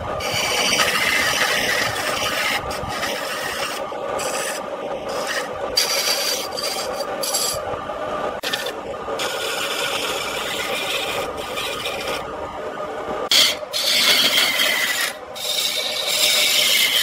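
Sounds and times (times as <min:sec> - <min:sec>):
chisel scraping spinning wood: 0:00.0 - 0:07.6, 0:08.3 - 0:12.3, 0:13.3 - 0:17.0.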